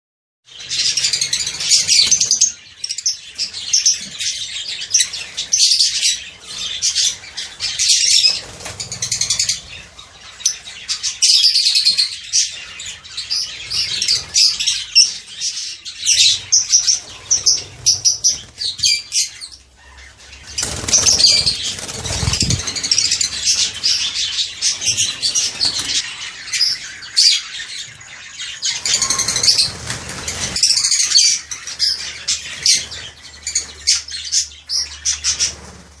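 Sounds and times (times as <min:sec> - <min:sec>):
parrots chirping shrilly: 0:00.6 - 0:35.6.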